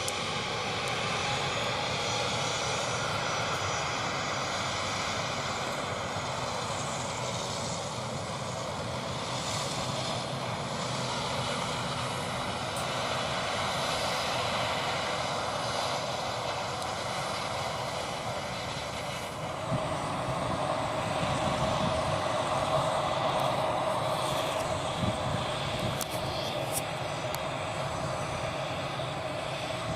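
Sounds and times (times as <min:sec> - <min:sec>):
jet engines droning loudly: 0:00.0 - 0:29.9
jet engines whining: 0:00.0 - 0:29.9.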